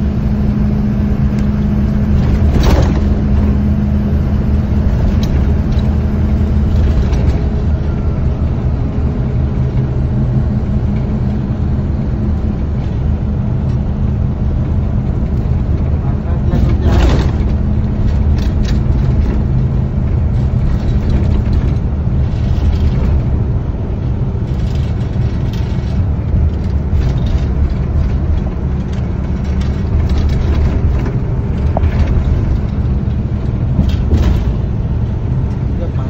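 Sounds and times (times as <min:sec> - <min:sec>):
engine and road rumble: 0:00.0 - 0:36.0.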